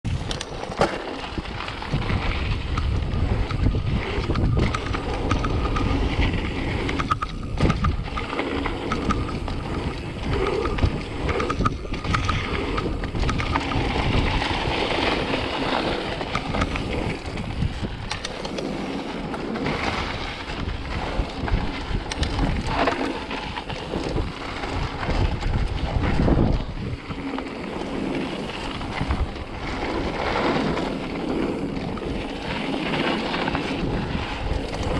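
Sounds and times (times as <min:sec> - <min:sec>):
mountain bike rumbling and rattling: 0:00.0 - 0:34.9
wind buffeting microphone: 0:00.0 - 0:34.9.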